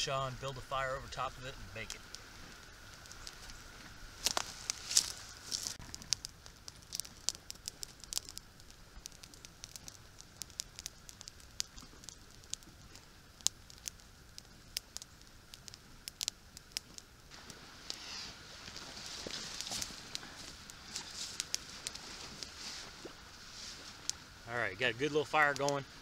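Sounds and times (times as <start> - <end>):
twig fire crackling and popping: 0.0 - 26.0.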